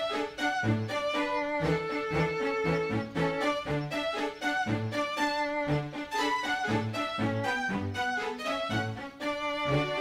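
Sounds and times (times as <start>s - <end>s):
string quartet music: 0.0s - 10.0s.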